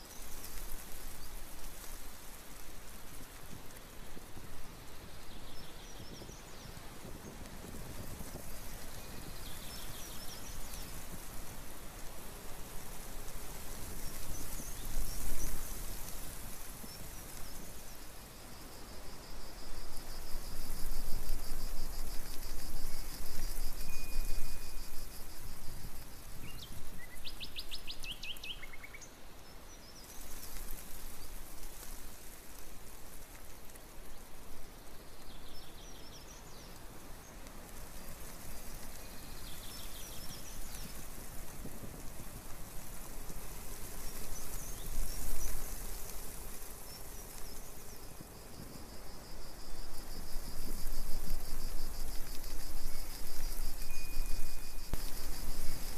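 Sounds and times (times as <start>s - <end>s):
steady rushing hiss: 0.0s - 55.9s.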